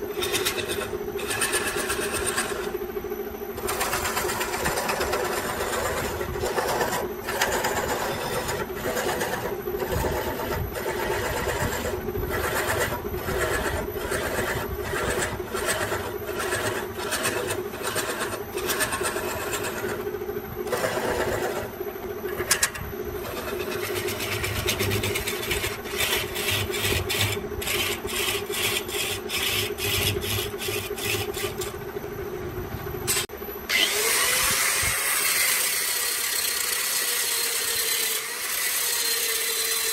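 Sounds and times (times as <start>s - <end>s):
angle grinder whirring: 0.0s - 2.8s, 3.6s - 31.9s, 33.1s - 39.9s
wood lathe motor hum: 0.0s - 2.9s, 3.5s - 31.9s, 33.1s - 39.9s
turning tool scraping wood: 0.1s - 2.8s, 3.6s - 20.1s, 20.7s - 21.7s, 22.3s - 31.8s, 35.3s - 39.9s.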